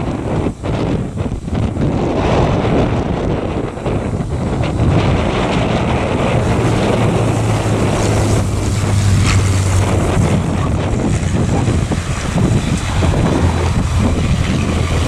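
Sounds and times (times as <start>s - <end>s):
aircraft engine drone: 0.0s - 15.0s
wind buffeting microphone: 0.0s - 15.0s.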